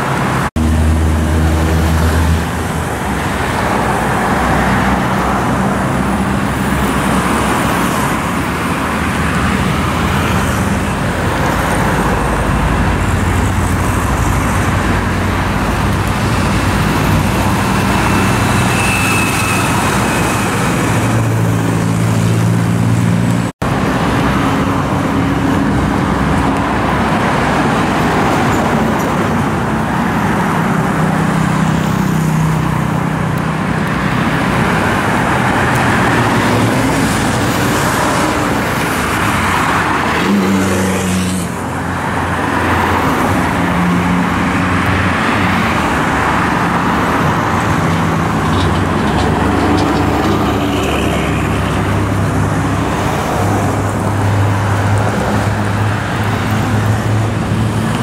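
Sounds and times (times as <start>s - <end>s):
cars and trucks passing: 0.0s - 58.0s.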